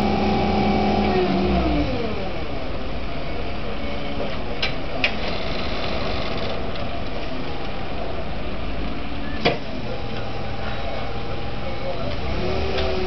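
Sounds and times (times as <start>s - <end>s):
lift truck engine running: 0.0s - 13.0s.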